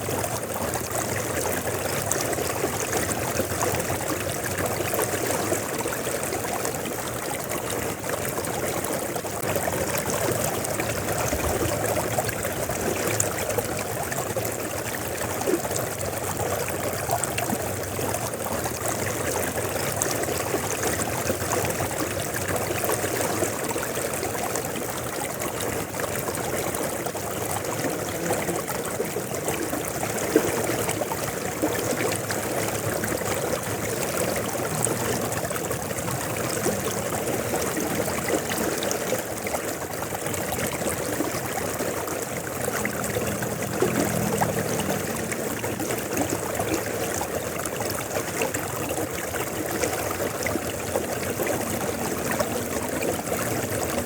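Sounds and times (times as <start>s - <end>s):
river flowing: 0.0s - 54.0s
water splashes and gurgles: 0.0s - 54.0s.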